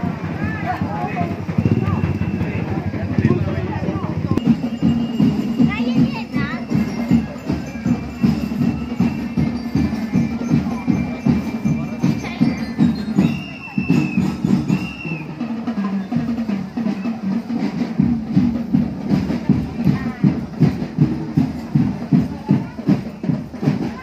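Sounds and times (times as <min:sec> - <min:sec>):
bass and snare drums beat: 0:00.0 - 0:24.0.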